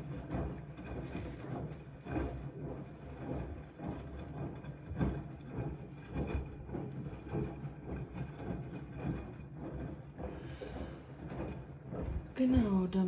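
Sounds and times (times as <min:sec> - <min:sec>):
laundry and water sloshing: 0:00.0 - 0:13.0
low rumble: 0:00.0 - 0:13.0
washing machine drum turning: 0:00.0 - 0:13.0.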